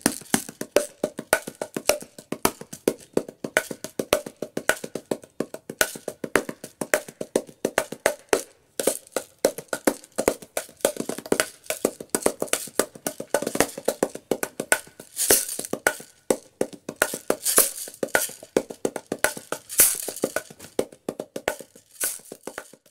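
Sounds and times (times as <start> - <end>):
hand percussion strikes: 0.0 - 22.9
shaker rattle: 0.0 - 22.9.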